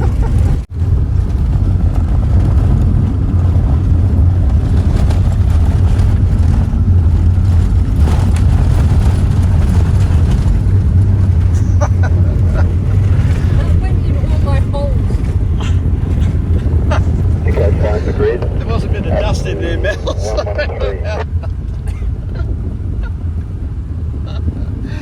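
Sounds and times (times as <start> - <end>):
engine and tyres on gravel: 0.0 - 25.0.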